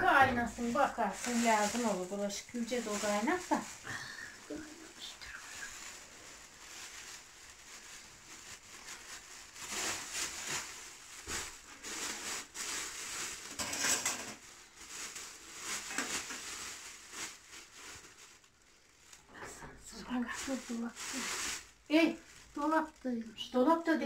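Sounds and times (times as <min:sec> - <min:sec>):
plastic bag rustling: 0:00.0 - 0:24.0.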